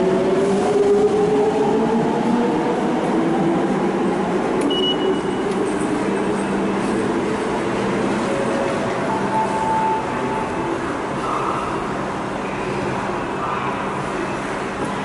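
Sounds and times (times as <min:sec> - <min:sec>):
station background noise: 0:00.0 - 0:15.0.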